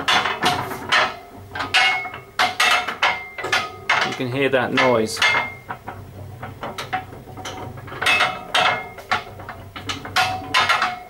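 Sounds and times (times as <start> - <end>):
fan blades clanking rattle: 0.0 - 11.0.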